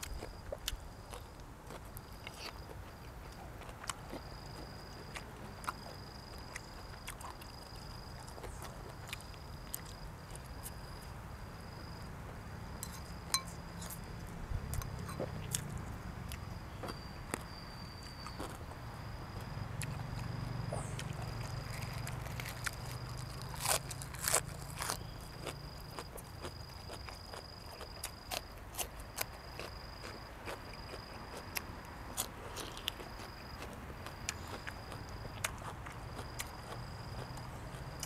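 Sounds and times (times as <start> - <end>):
chewing crunches: 0.0 - 10.8, 12.8 - 38.0.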